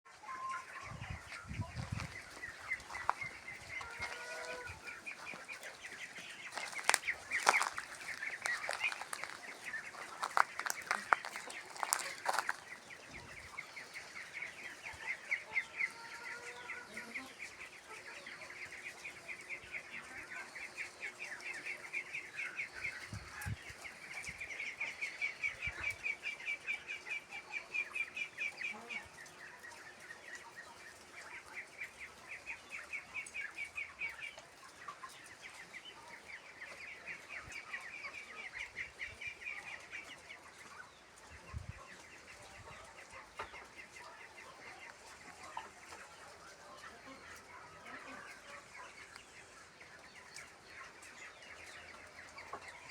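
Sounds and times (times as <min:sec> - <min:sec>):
ducklings peeping: 0:00.1 - 0:52.9.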